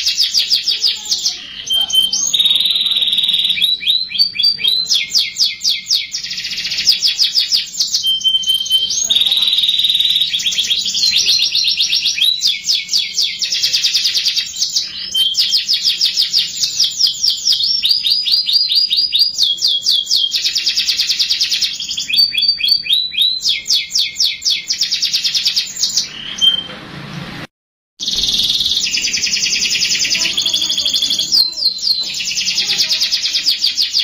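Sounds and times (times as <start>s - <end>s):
canary singing trills: 0.0s - 26.7s, 28.0s - 34.0s.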